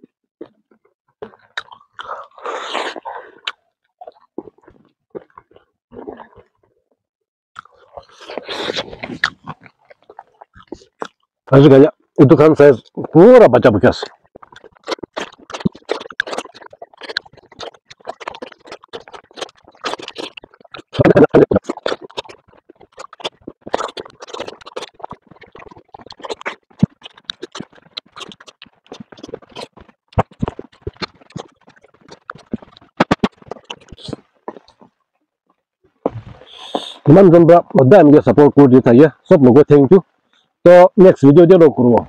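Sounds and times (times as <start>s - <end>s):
chewing and crunching food: 0.0s - 7.0s, 7.6s - 39.0s
mouth clicks and smacks: 0.4s - 6.6s, 7.6s - 35.0s, 35.9s - 37.8s.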